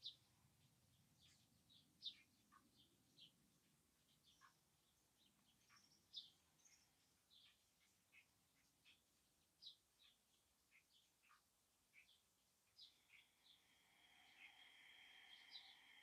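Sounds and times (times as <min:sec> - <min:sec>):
faint birdsong chirps: 0:00.0 - 0:16.0.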